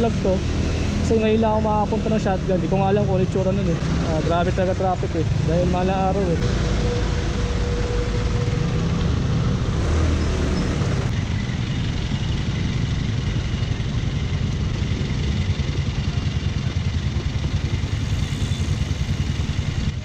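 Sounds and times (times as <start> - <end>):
rumble of motorcycles and cars: 0.0 - 20.0
scooter engine running: 0.0 - 20.0.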